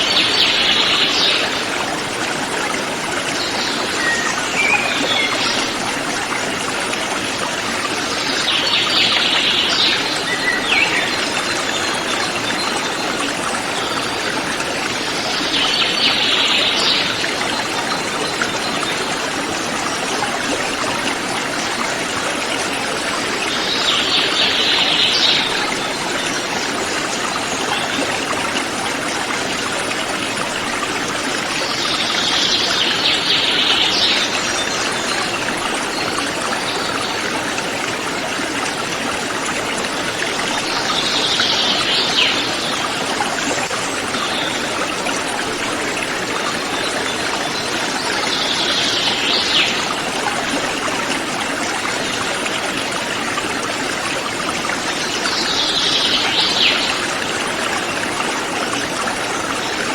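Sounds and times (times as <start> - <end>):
river flowing: 0.0 - 59.9.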